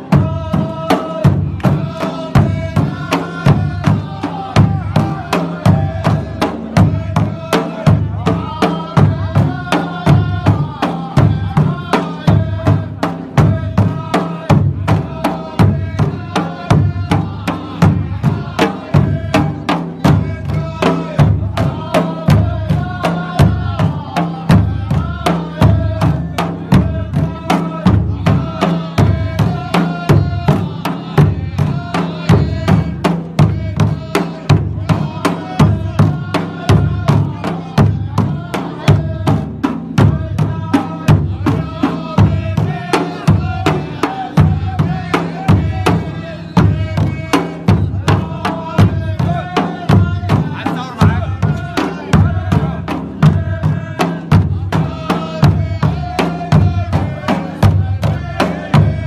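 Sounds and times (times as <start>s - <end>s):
frame drums beaten: 0.0s - 59.0s
men chanting in unison: 0.0s - 59.0s.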